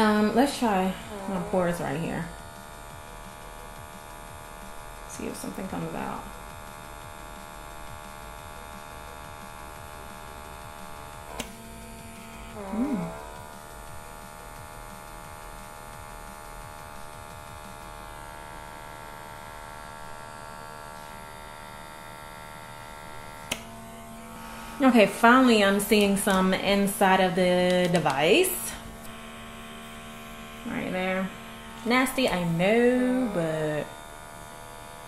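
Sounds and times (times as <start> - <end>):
suction vacuum electric hum: 0.0 - 35.0.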